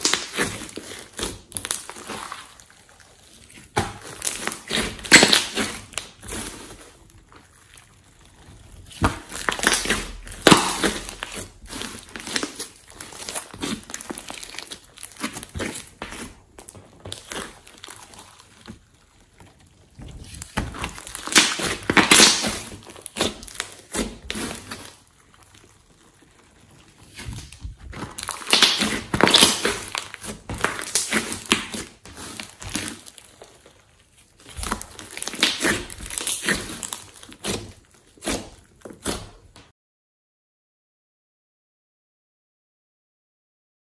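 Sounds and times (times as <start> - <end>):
crackling slime squished by hand: 0.0 - 39.7.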